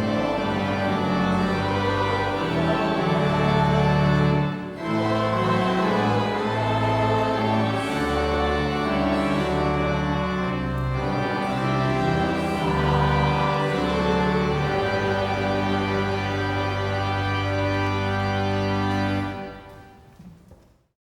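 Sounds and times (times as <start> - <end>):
choir and congregation singing: 0.0 - 19.9
church organ chords: 0.0 - 20.1.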